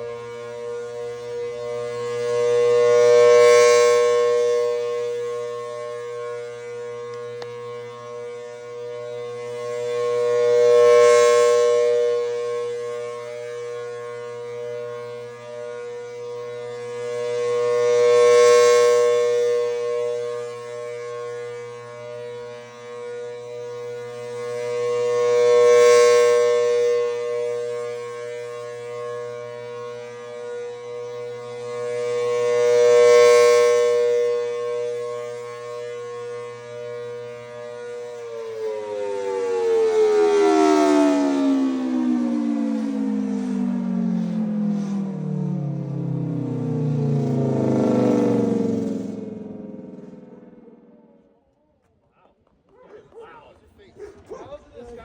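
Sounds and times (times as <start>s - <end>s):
tornado siren two-tone chord: 0.0s - 51.7s.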